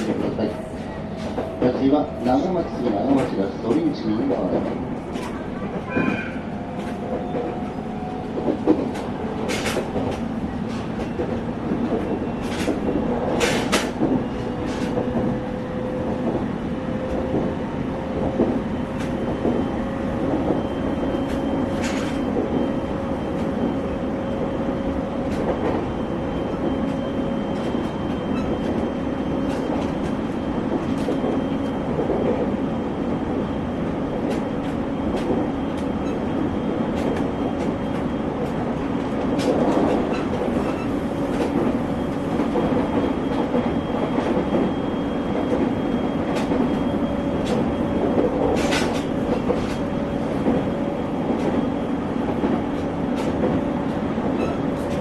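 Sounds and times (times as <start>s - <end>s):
train rolling noise: 0.0s - 55.0s.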